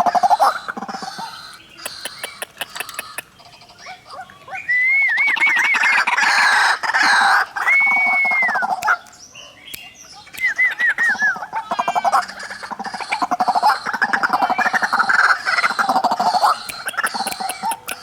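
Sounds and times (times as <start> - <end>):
waterhens croaking and whistling: 0.0 - 9.1, 9.7 - 18.0.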